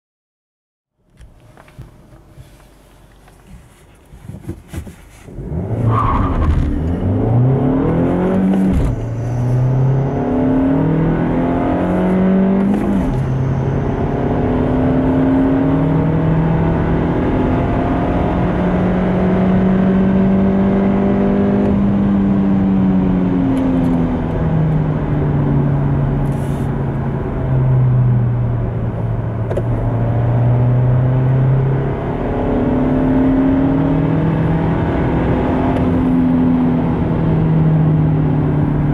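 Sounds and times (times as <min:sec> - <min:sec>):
car engine accelerating: 0:05.3 - 0:38.9.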